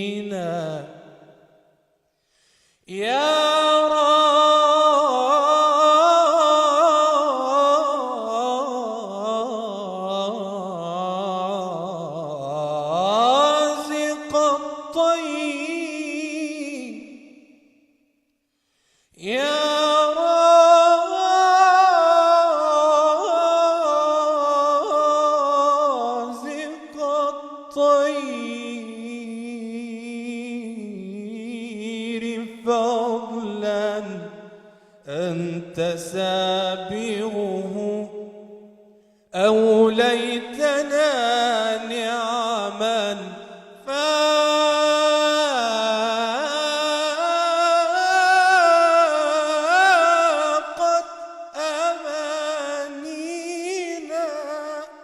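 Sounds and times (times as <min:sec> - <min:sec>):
man singing a hymn unaccompanied: 0:00.0 - 0:01.4, 0:02.8 - 0:17.4, 0:19.1 - 0:55.0.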